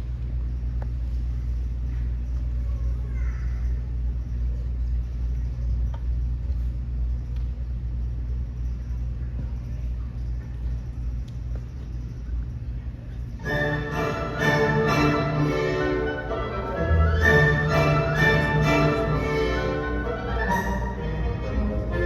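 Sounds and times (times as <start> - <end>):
low room rumble: 0.0 - 22.0.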